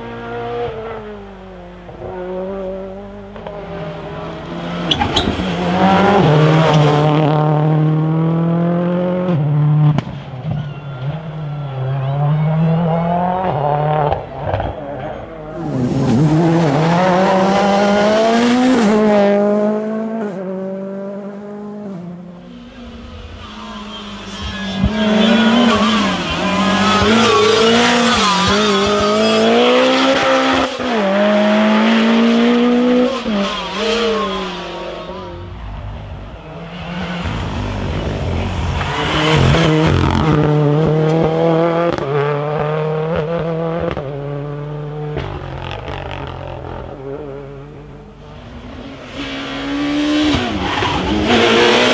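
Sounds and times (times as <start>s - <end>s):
rally car engine revving: 0.0s - 10.2s, 11.0s - 51.9s.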